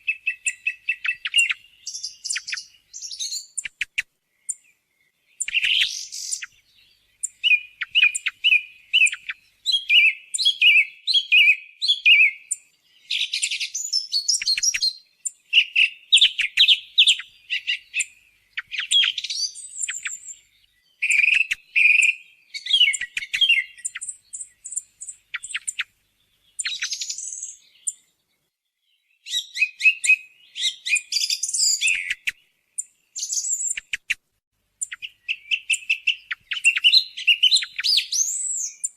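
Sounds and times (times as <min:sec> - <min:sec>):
song thrush singing: 0:00.0 - 0:38.9.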